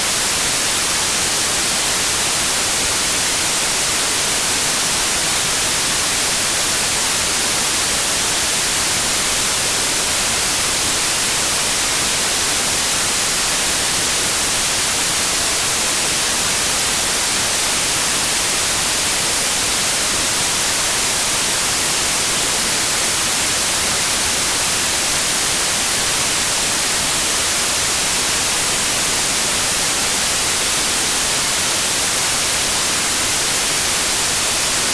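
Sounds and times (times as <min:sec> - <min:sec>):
white noise hiss: 0:00.0 - 0:34.9.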